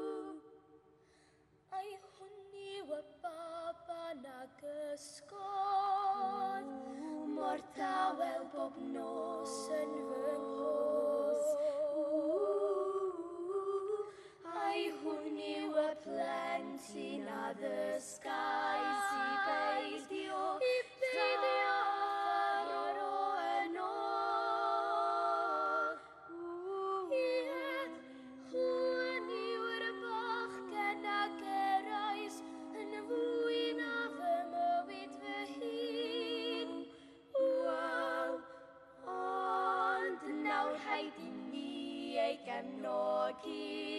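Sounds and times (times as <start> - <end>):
girls singing in harmony: 0.0 - 0.8, 1.7 - 43.9.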